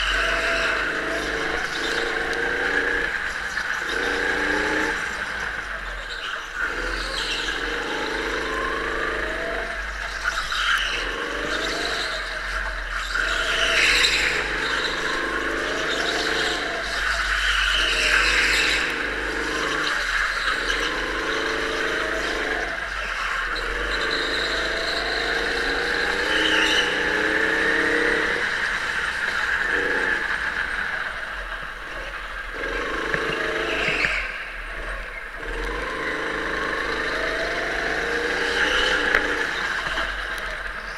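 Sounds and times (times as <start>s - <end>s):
go-kart motor revving: 0.0s - 40.9s.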